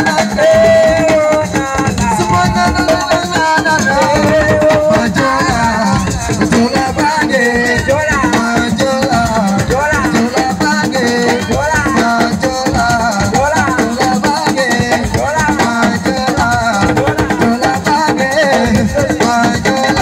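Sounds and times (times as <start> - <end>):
rattles and drums beat: 0.0 - 20.0.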